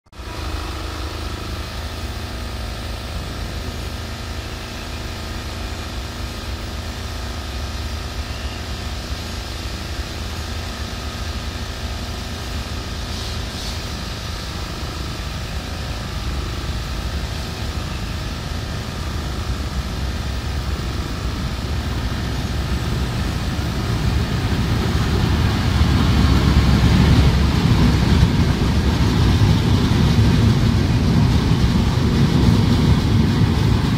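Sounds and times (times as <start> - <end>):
diesel train engine rumble: 0.1 - 33.9.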